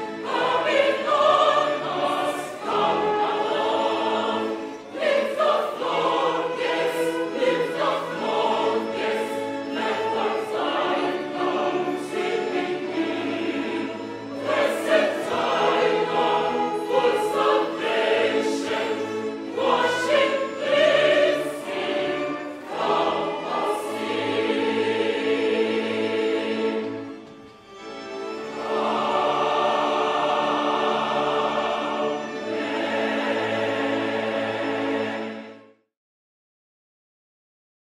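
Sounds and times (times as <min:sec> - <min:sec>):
violin accompaniment: 0:00.0 - 0:35.7
choir singing a hymn: 0:00.0 - 0:35.8.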